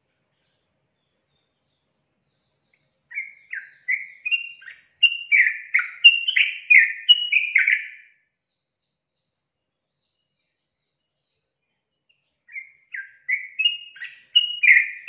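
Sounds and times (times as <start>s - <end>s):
bulbul singing: 0.3s - 15.0s.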